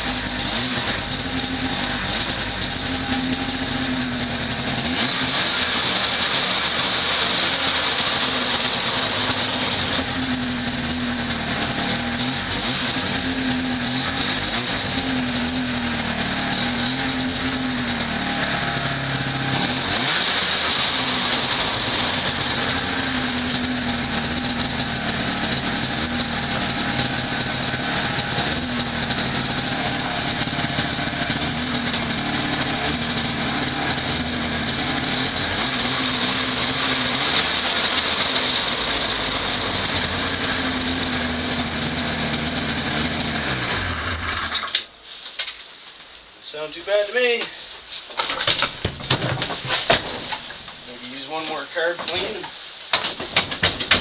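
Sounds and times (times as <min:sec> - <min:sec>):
two-stroke engine revving: 0:00.0 - 0:44.8.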